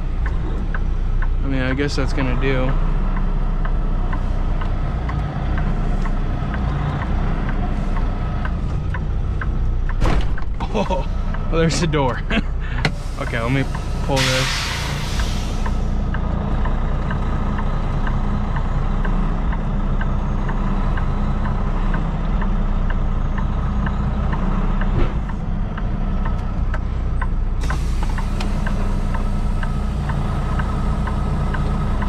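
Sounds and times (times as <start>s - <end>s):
light regular ticking: 0.0s - 10.0s, 15.6s - 32.0s
diesel truck engine running: 0.0s - 32.0s.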